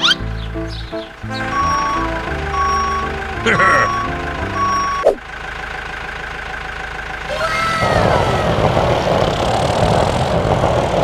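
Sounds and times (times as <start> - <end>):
engine rumble: 0.0 - 11.0.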